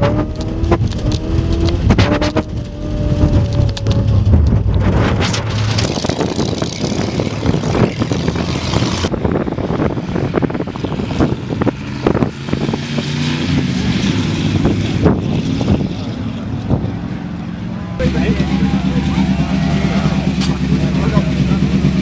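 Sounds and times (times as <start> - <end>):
racing car engines running hard: 0.0 - 22.0
vehicle engine running: 0.0 - 22.0.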